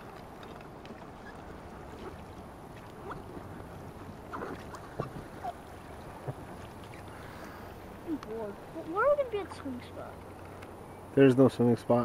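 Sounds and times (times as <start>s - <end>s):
paddle splashes and drips: 0.0s - 9.8s.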